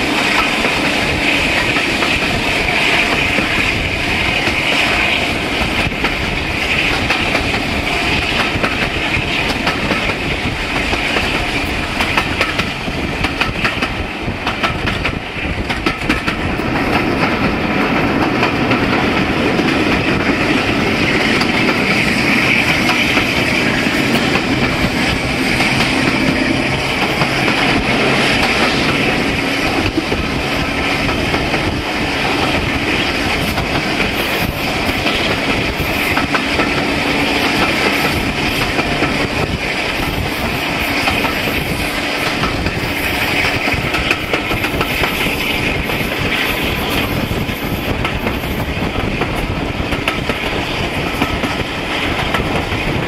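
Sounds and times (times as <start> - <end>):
diesel locomotive engine rumbling: 0.0 - 53.0
train wheels clicking on rail joints: 0.0 - 53.0.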